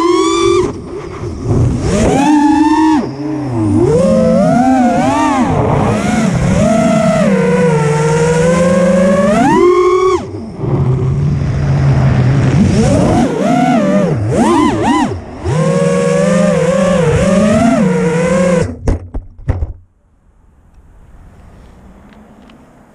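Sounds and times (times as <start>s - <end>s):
drone motors whining: 0.0s - 18.8s
faint wind: 0.0s - 22.9s.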